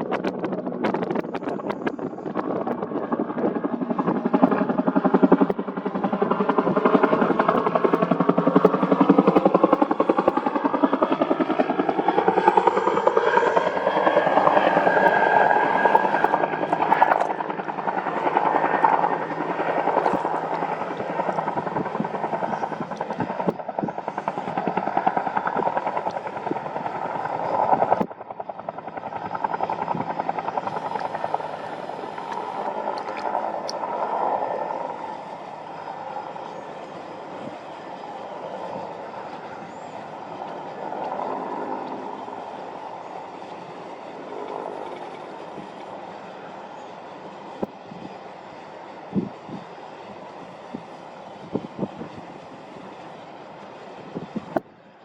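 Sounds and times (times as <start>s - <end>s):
helicopter rotor beating: 0.0s - 55.0s.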